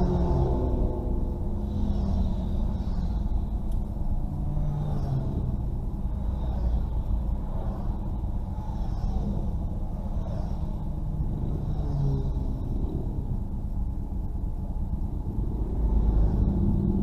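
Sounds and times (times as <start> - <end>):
motorcycle engines rumbling past: 0.0 - 17.0.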